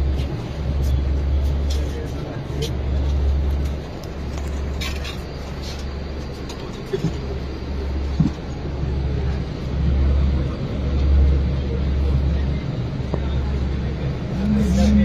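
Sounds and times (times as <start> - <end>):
bus engine low rumble: 0.0 - 15.0.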